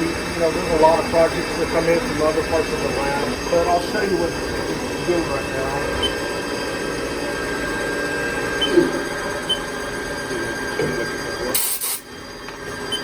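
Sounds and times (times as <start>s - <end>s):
machine tool humming and whining: 0.0s - 13.0s.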